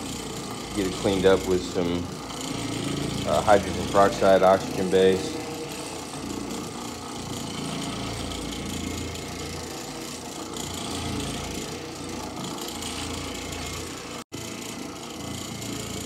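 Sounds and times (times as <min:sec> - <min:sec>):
floor machine motor hum: 0:00.0 - 0:16.0.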